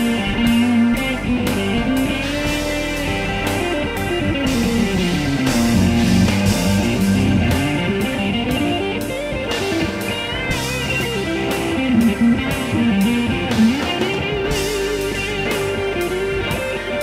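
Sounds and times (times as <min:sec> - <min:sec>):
bass line: 0:00.0 - 0:17.0
bluesy electric guitar lead: 0:00.0 - 0:17.0
steady drum beat: 0:00.0 - 0:17.0.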